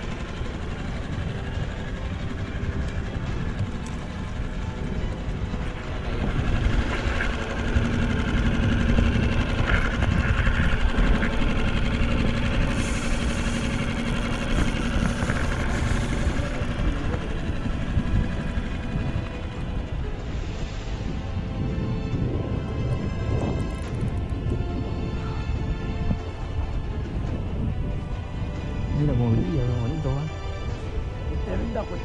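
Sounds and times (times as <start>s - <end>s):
boat motor rumbling: 0.0s - 32.0s.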